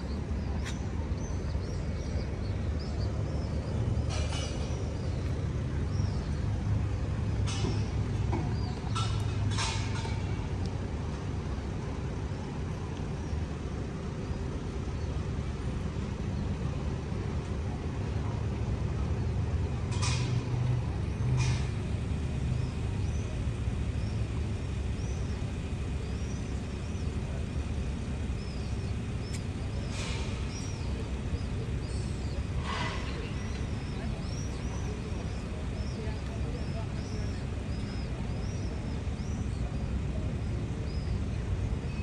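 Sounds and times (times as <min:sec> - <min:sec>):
faint hum: 0:00.0 - 0:42.0
low rumble of marine engines: 0:00.0 - 0:42.0.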